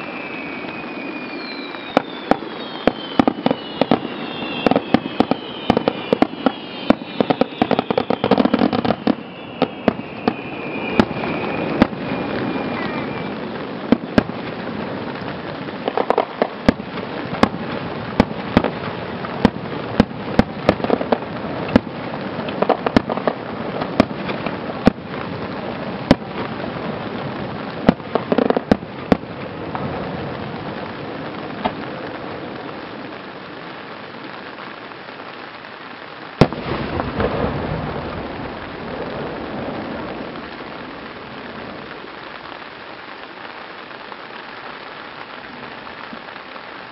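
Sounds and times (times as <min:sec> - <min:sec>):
fireworks cracking and banging: 0:00.0 - 0:46.9
rain hiss: 0:00.0 - 0:46.9.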